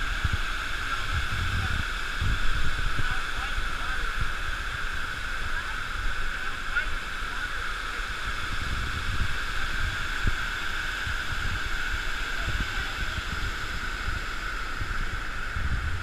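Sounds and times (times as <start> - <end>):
low rumbling: 0.0 - 16.0
waterfalls pouring into a pool: 0.0 - 16.0.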